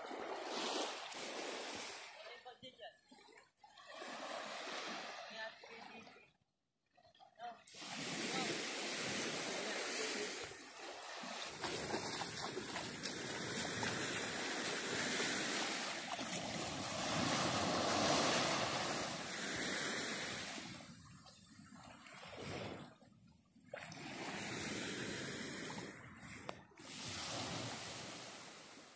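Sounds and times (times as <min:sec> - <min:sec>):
small waves washing onto sandy shore: 0:00.0 - 0:02.8, 0:03.8 - 0:06.0, 0:07.6 - 0:23.0, 0:23.7 - 0:28.9.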